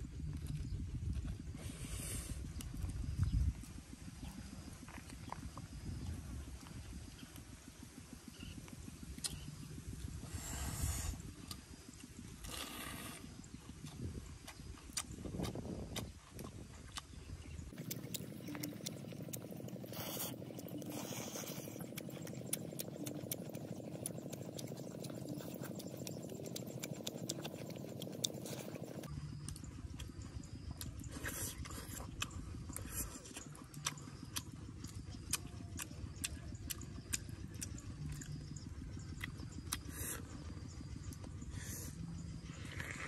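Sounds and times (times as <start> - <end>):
outdoor background noise: 0.0 - 43.0
man chewing and smacking lips: 0.2 - 1.7, 8.3 - 10.5, 11.4 - 43.0.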